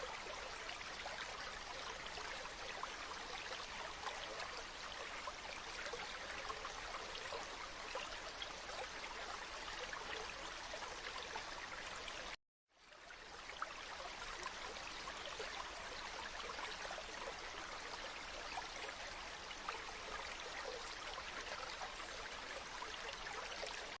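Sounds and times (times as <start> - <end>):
stream water trickling: 0.0 - 24.0.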